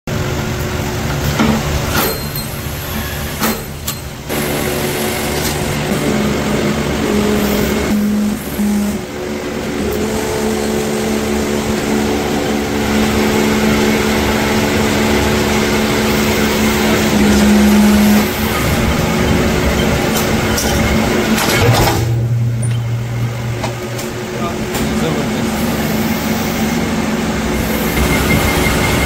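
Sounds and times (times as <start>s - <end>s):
workshop noise: 0.1s - 29.0s
electric machine humming: 4.1s - 29.0s.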